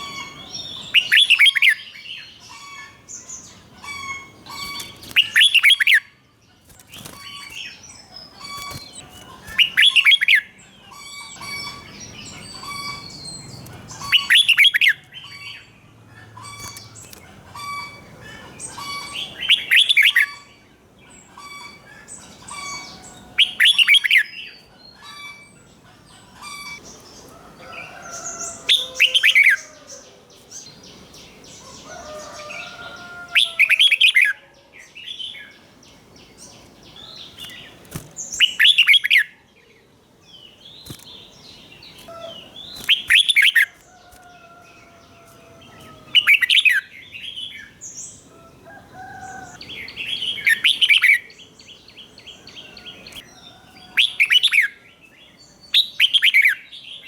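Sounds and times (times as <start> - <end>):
soft bird chirping: 0.0 - 15.7, 16.4 - 56.6.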